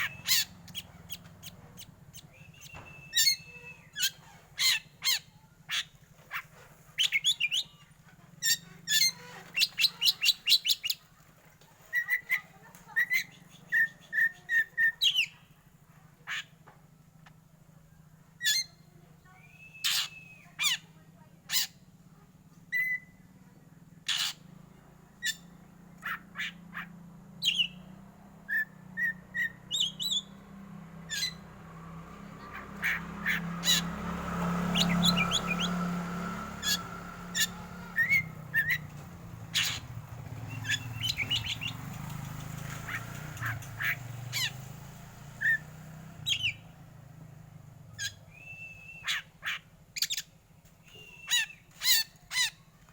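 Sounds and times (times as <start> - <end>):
bird giving sharp chirps: 0.0 - 11.0, 11.9 - 15.6, 18.4 - 21.8, 24.0 - 24.5, 25.1 - 31.6, 32.2 - 52.8.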